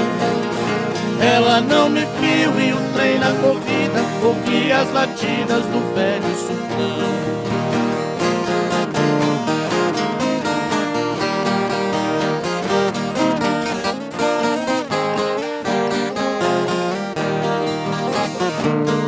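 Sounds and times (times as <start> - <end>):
plucked guitar melody: 0.0 - 19.0
strummed accompaniment: 0.0 - 19.0.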